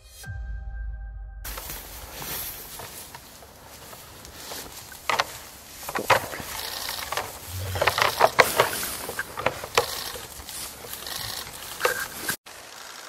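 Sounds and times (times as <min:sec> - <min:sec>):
antlers knocking together: 0:01.5 - 0:12.4.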